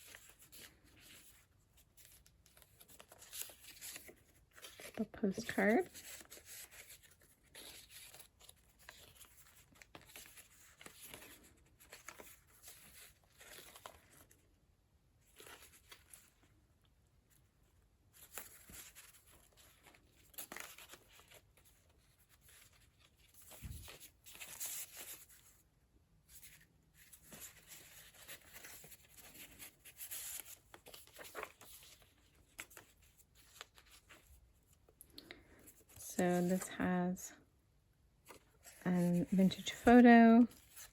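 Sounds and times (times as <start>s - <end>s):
paper pages rustling: 0.0s - 14.5s, 15.2s - 16.6s, 18.1s - 25.6s, 26.2s - 37.1s, 38.2s - 40.9s.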